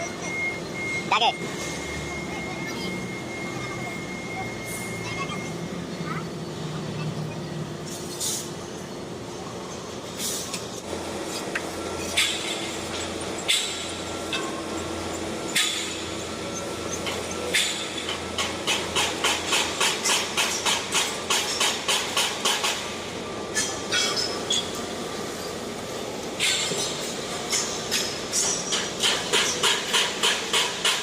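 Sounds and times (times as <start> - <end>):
construction site noise: 0.0 - 31.0.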